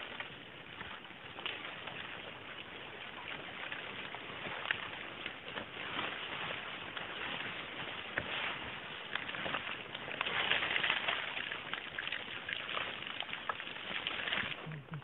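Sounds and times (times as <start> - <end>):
rustling undergrowth and twigs: 0.0 - 15.0.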